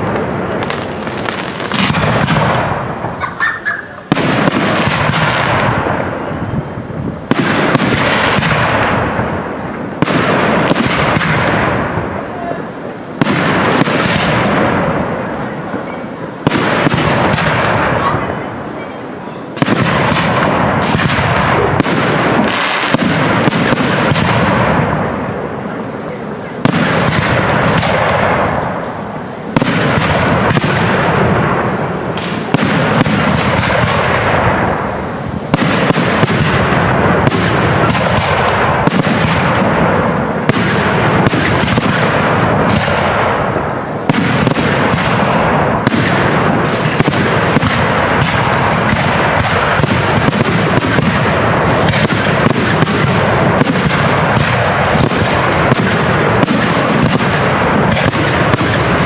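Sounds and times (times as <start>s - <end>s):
fireworks bursting overhead: 0.0s - 59.0s.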